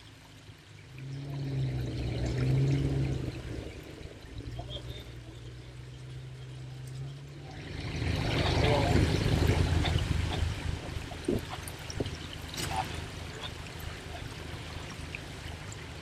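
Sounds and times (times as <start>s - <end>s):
engine running under load: 0.0s - 16.0s.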